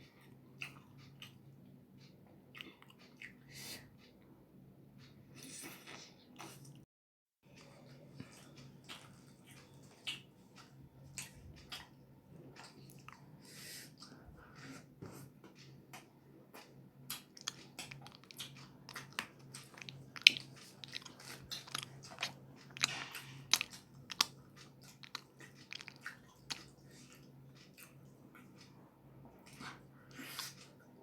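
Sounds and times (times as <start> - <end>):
chewing and crunching bread: 0.0 - 4.1, 5.0 - 6.8, 7.4 - 31.0.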